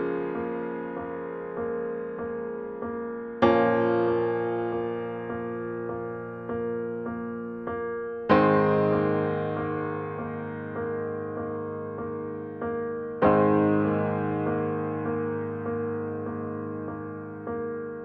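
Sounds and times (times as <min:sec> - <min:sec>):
gentle solo piano: 0:00.0 - 0:18.0.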